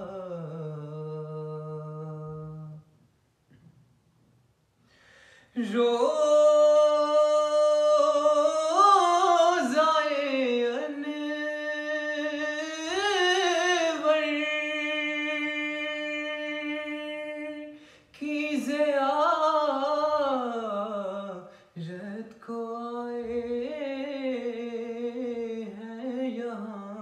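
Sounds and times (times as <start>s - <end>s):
man singing a cappella: 0.0s - 3.0s, 5.5s - 27.0s.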